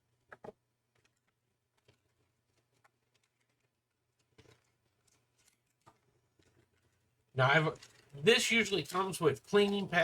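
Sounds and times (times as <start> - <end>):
faint clicks and rustles: 0.2 - 10.0.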